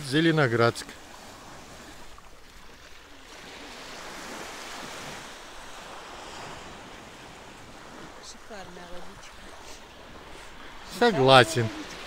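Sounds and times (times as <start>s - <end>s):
small waves on sandy shore: 0.0s - 12.0s.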